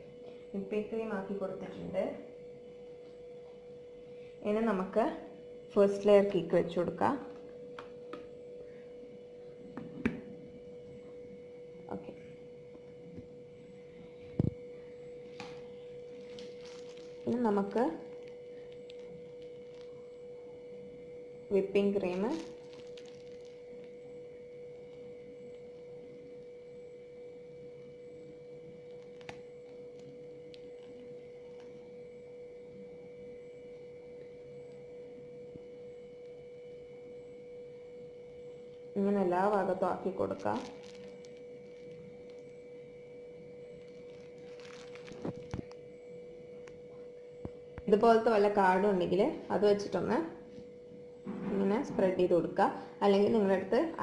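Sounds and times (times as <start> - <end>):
faint hum: 0.0 - 54.0.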